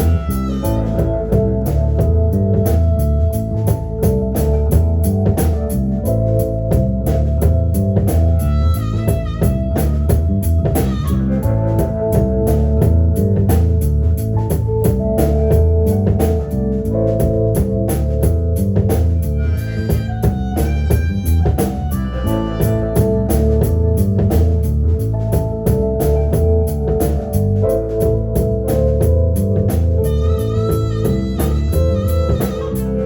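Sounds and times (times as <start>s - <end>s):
bass line: 0.0s - 33.0s
drum kit beat: 0.0s - 33.0s.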